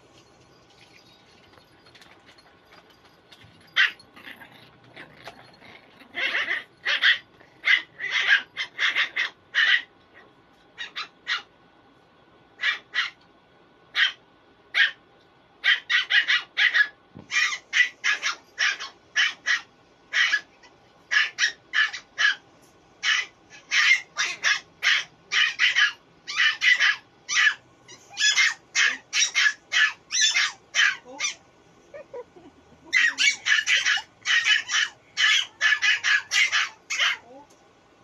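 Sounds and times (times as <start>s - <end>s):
puppies yipping and barking: 0.0s - 9.9s, 10.8s - 11.5s, 15.6s - 22.4s, 23.0s - 37.4s.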